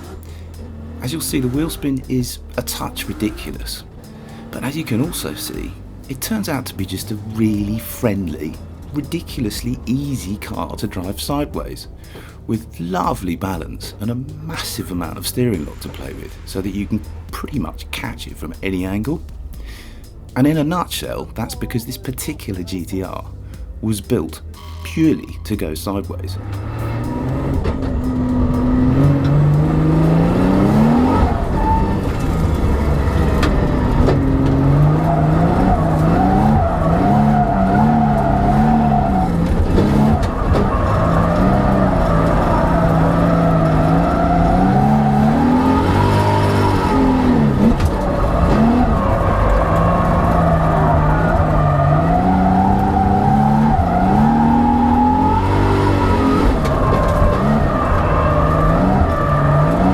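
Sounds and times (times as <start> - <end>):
car engine at high revs: 0.0 - 23.8, 26.3 - 59.9
tyres skidding and squealing: 0.0 - 59.9.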